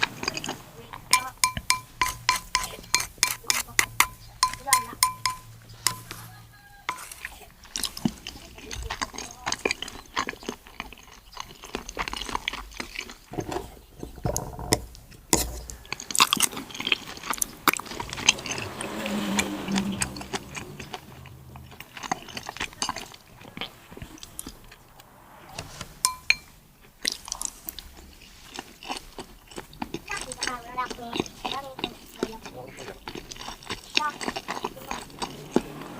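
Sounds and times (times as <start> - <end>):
person chewing seafood: 0.0 - 24.8, 27.0 - 35.9.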